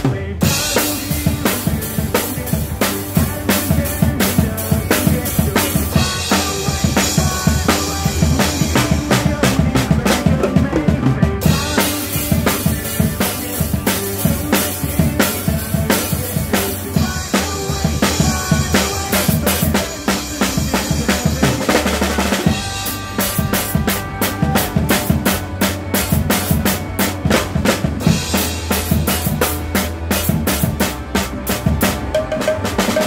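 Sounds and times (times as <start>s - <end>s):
acoustic drum kit: 0.0s - 33.0s
backing music from speaker: 0.0s - 33.0s.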